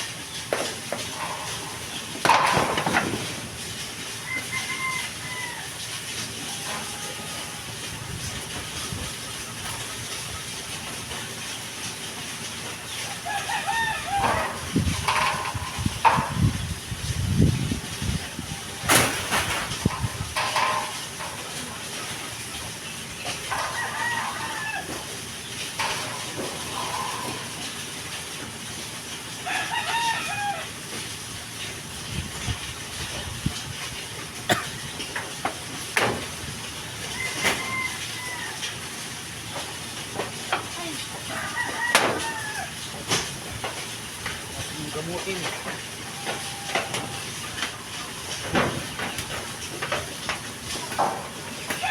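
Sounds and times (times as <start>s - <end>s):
chickens clucking: 0.0s - 29.6s, 32.6s - 51.9s.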